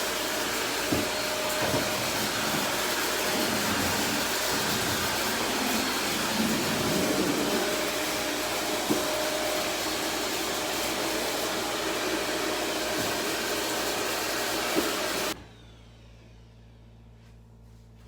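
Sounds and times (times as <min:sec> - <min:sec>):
vacuum cleaner running: 0:00.0 - 0:17.4.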